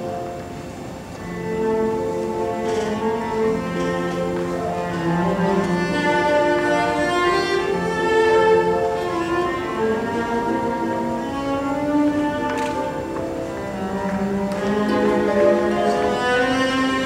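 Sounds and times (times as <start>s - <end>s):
bowed string ensemble: 0.0s - 17.0s.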